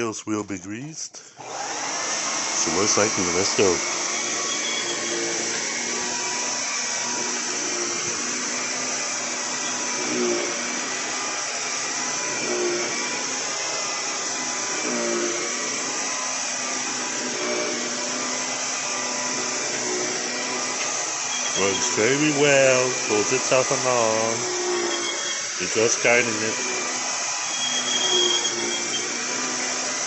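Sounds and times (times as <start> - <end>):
vacuum cleaner running: 1.4 - 30.0.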